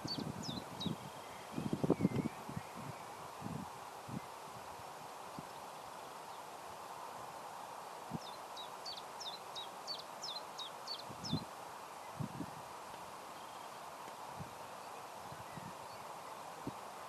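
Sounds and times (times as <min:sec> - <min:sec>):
outdoor background hiss: 0:00.0 - 0:17.0
songbird chirping: 0:00.0 - 0:17.0.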